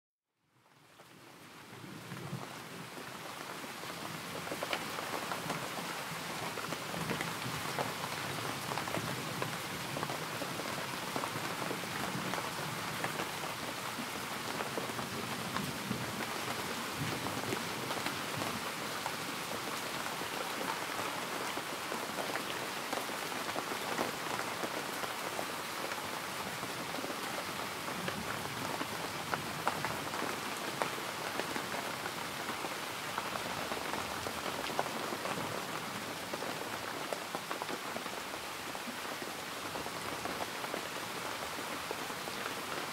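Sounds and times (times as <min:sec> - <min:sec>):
rain on hard surface: 0:00.4 - 0:42.9.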